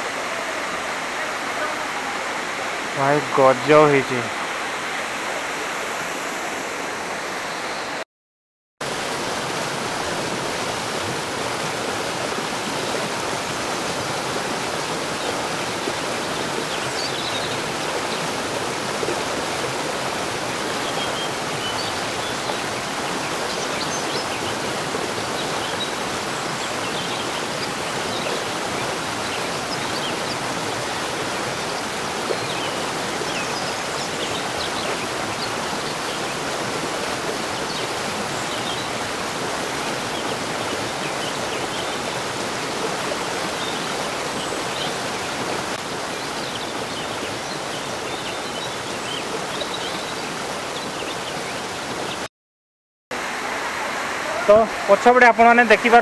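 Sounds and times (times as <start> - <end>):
waterfall rushing: 0.0 - 8.0, 8.8 - 52.2, 53.2 - 56.0.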